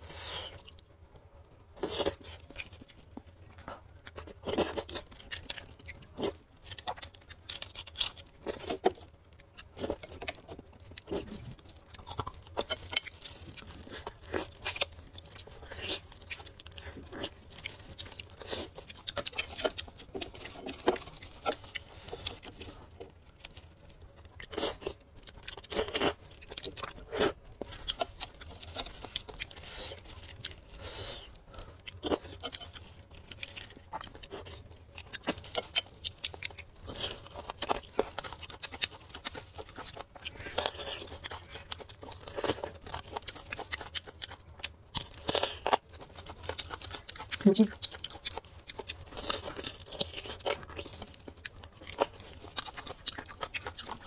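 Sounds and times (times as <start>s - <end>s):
wet chewing and smacking: 0.1s - 54.0s.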